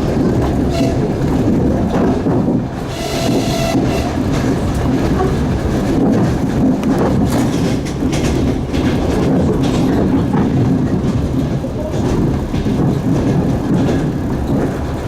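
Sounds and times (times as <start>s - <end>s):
train wheels rumbling on rails: 0.0s - 15.0s
wheels clacking over rail joints: 0.0s - 15.0s.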